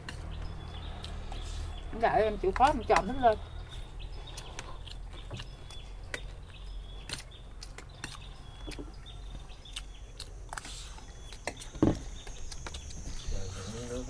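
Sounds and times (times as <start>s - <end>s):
faint bird chirps: 0.3s - 14.0s.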